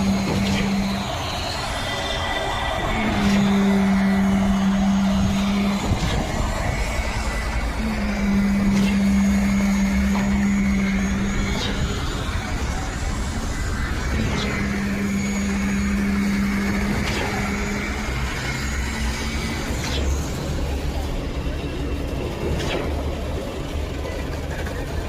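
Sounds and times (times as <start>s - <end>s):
concrete pump engine drone: 0.0s - 25.0s.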